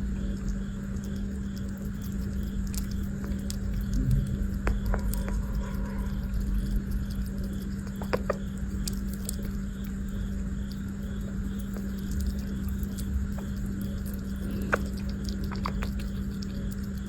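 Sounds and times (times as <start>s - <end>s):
small animal clicking and scratching: 0.0s - 17.0s
steady low hum: 0.0s - 17.0s.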